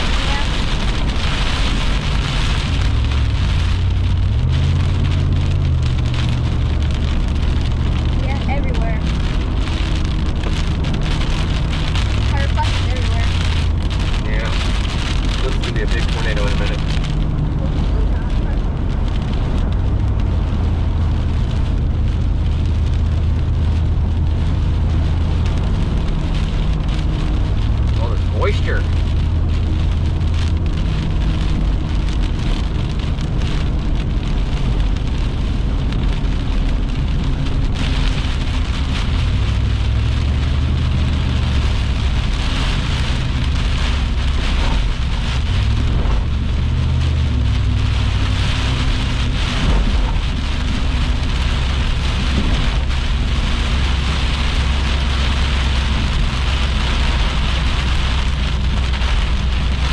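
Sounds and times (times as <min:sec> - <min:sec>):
deep thunder rumble: 0:00.0 - 0:59.9
rain rushing: 0:00.0 - 0:59.9
wind: 0:00.0 - 0:59.9.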